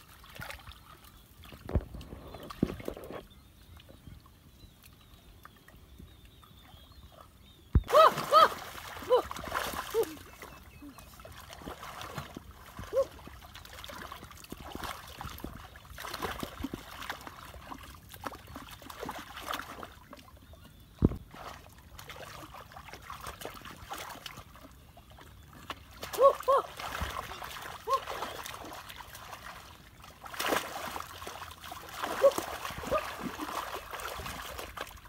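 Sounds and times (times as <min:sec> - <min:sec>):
muddy water sloshing and splashing: 0:00.0 - 0:35.0.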